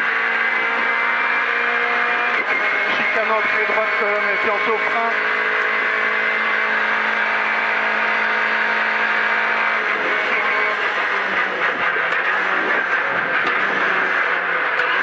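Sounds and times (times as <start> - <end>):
car engine at high revs: 0.0 - 15.0
road and wind noise: 0.0 - 15.0.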